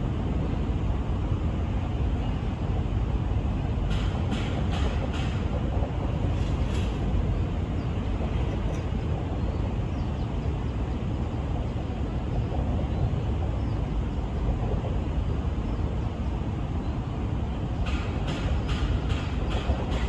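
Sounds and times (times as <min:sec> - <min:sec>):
road traffic: 0:00.0 - 0:20.0
wind: 0:00.0 - 0:20.0.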